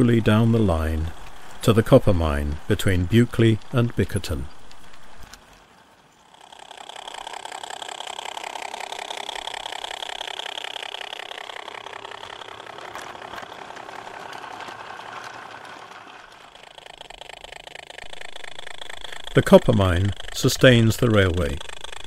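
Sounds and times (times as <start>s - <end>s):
model train mechanical chatter: 0.0s - 22.0s.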